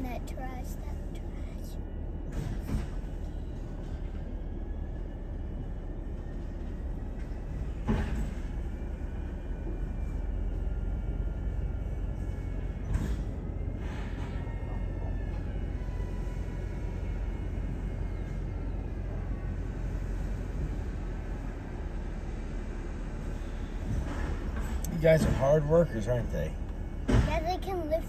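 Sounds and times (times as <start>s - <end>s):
garbage truck engine and hydraulics: 0.0s - 28.0s.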